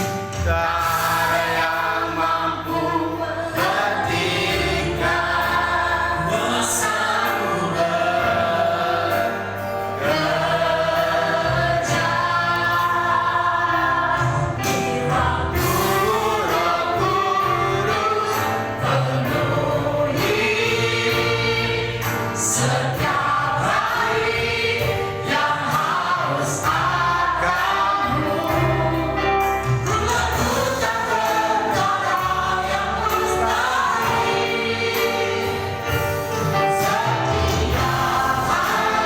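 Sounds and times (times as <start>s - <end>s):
congregation singing with band: 0.0s - 39.0s.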